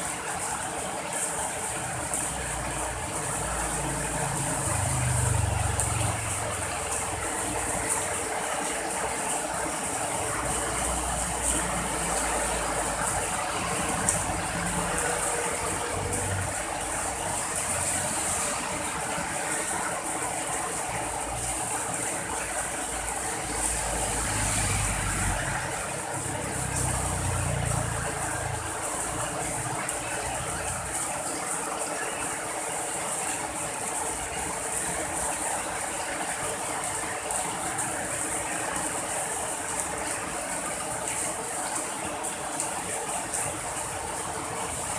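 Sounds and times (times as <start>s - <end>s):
rain hiss: 0.0s - 44.9s.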